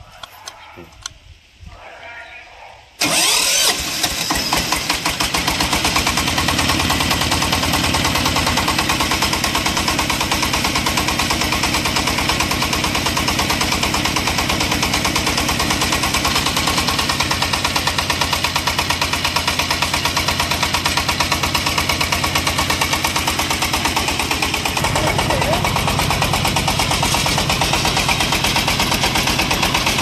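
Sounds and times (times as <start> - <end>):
diesel engine running: 3.0 - 30.0.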